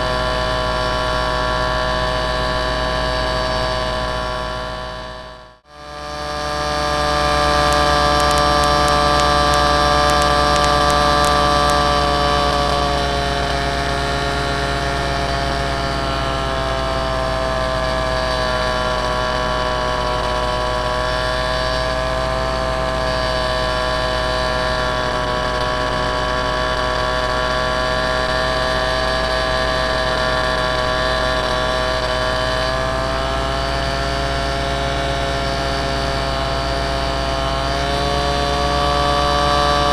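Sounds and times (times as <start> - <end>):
model aircraft motor humming: 0.0 - 39.9.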